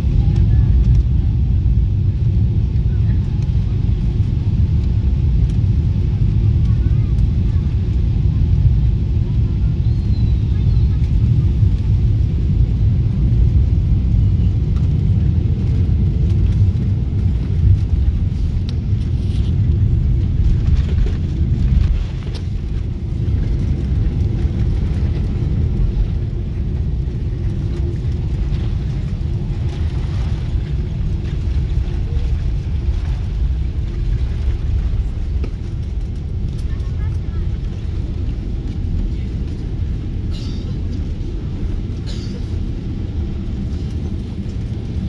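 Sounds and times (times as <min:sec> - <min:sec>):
airliner engine and wheel rumble: 0:00.0 - 0:45.0.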